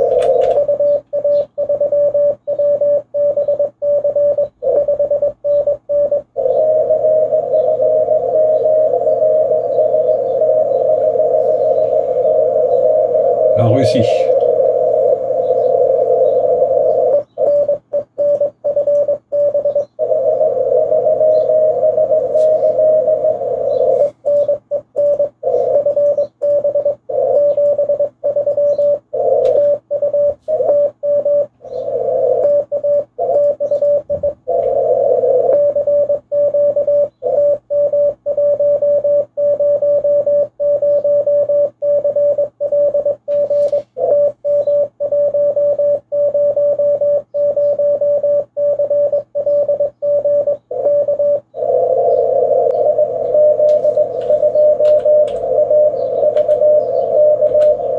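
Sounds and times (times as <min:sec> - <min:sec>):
morse code tone: 0:00.0 - 0:57.9
radio band noise: 0:00.0 - 0:57.9.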